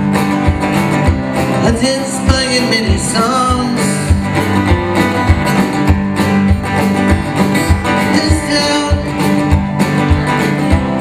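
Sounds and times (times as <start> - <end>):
rock band playing: 0.0 - 11.0.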